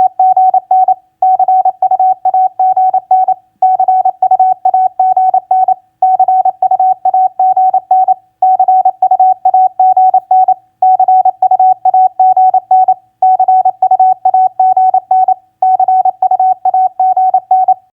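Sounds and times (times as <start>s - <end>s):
morse code tone: 0.0s - 17.8s.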